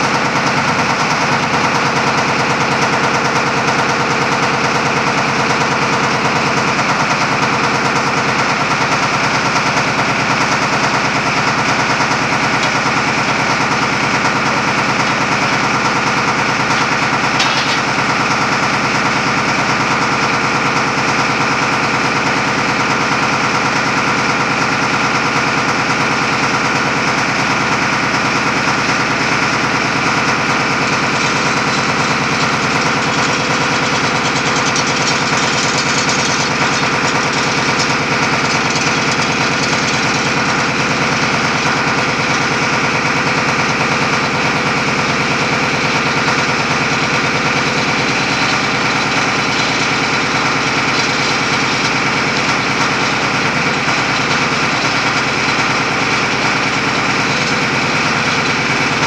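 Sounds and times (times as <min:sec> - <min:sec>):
drilling rig rattling: 0:00.0 - 0:59.0.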